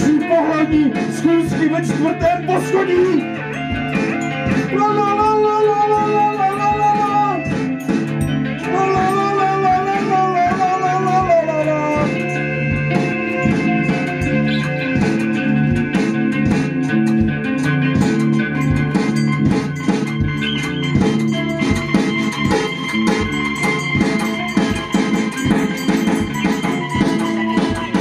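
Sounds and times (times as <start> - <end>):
bending high guitar melody: 0.0 - 28.0
live rock band playing: 0.0 - 28.0.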